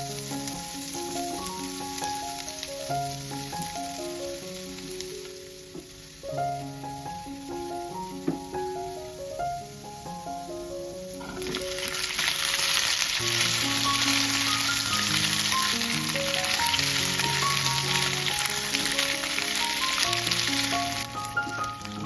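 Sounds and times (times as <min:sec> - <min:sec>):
background music: 0:00.0 - 0:22.0
food sizzling in hot oil: 0:00.0 - 0:22.0.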